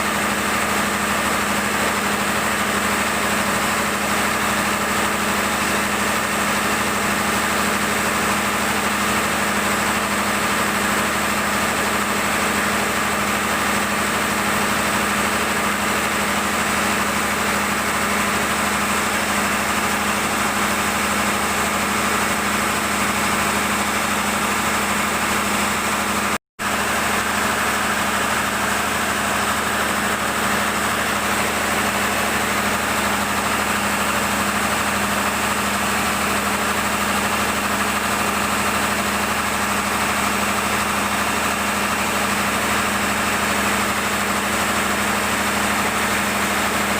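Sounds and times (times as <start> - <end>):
generator engine running: 0.0 - 46.9.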